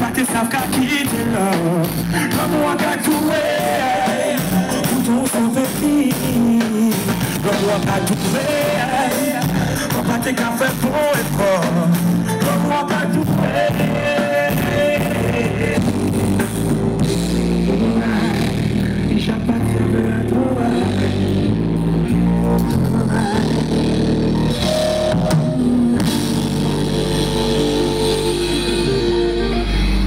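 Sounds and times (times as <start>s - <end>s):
bass guitar: 0.0s - 30.0s
drum kit: 0.0s - 30.0s
electric guitar: 0.0s - 30.0s.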